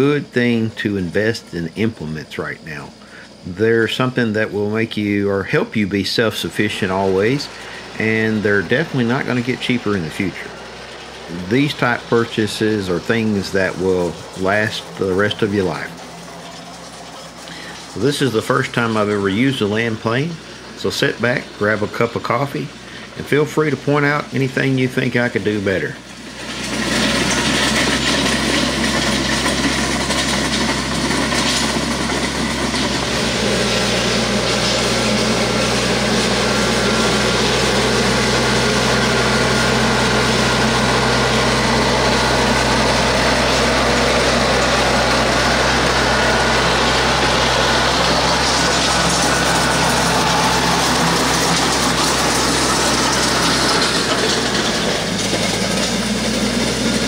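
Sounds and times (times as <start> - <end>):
blades scraping gravel: 0.0 - 57.0
tractor diesel engine running: 0.0 - 57.0.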